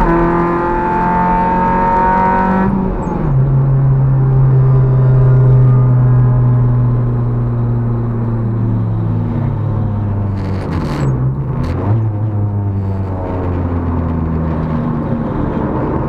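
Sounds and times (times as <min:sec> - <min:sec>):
car engine pulling hard: 0:00.0 - 0:16.0.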